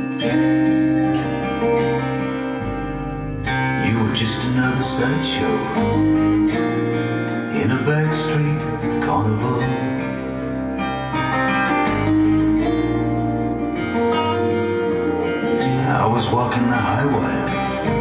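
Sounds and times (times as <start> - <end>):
acoustic guitar instrumental music: 0.0 - 18.0.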